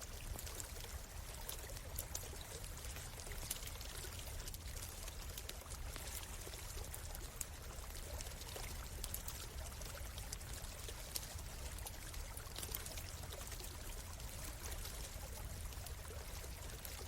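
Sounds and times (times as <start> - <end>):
campfire crackling: 0.0 - 17.0
stream running: 0.0 - 17.0.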